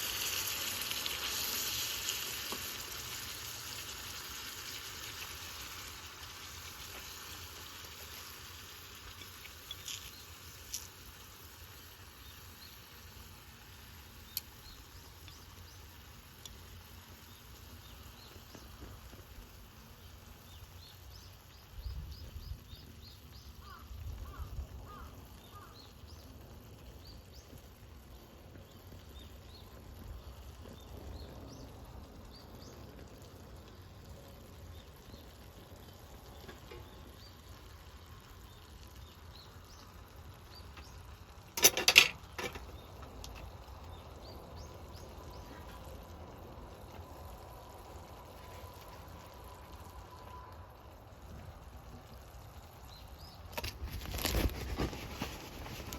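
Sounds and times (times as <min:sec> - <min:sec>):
faint outdoor ambience: 0:00.0 - 0:55.9
frying sizzle: 0:00.0 - 0:55.9
small birds chirping: 0:00.1 - 0:55.9.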